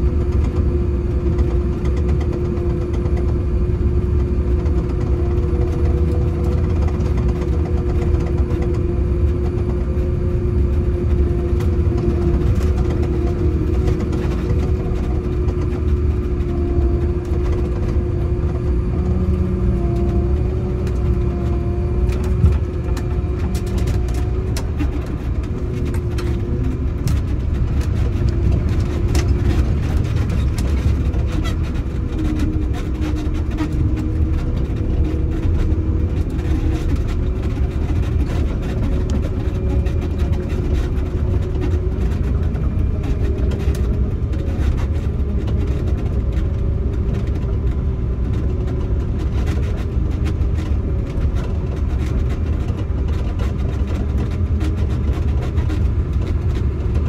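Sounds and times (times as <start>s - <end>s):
diesel engine rumbling under load: 0.0s - 57.0s.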